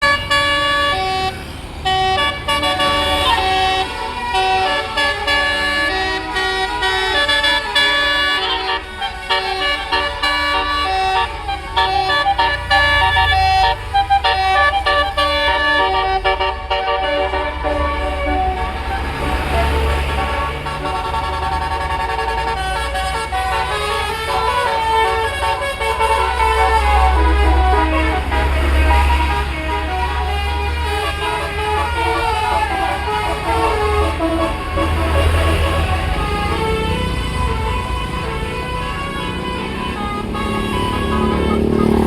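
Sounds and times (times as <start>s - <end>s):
musical air horn melody: 0.0s - 42.0s
low engine rumble: 8.3s - 42.0s.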